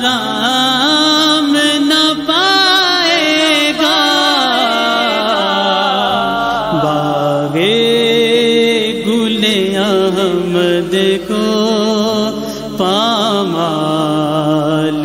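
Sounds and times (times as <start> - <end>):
low drone: 0.0 - 15.0
wordless vocal chanting: 0.0 - 15.0.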